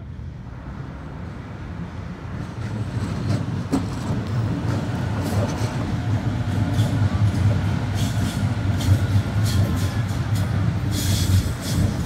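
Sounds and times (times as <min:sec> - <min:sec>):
electric train rumbling past: 0:00.0 - 0:12.0.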